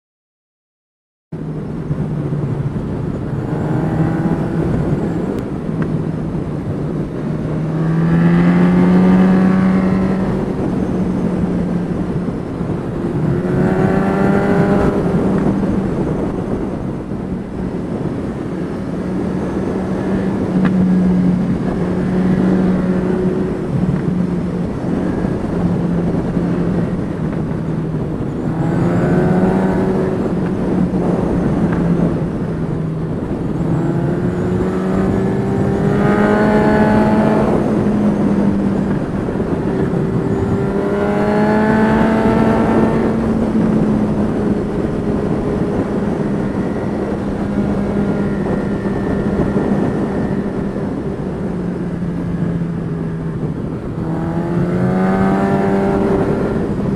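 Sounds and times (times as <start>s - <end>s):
motorcycle engine revving: 1.4s - 56.9s
wind rushing over helmet: 1.4s - 56.9s.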